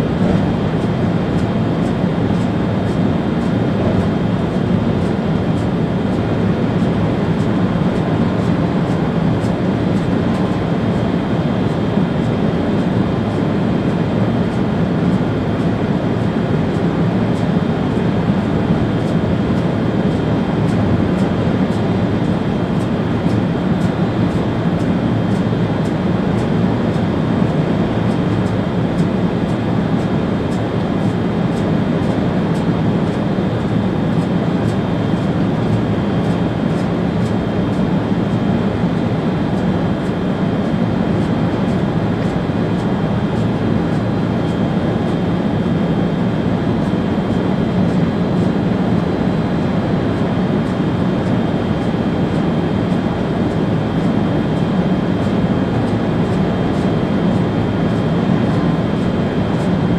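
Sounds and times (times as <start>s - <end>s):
train cab running noise: 0.0s - 59.9s.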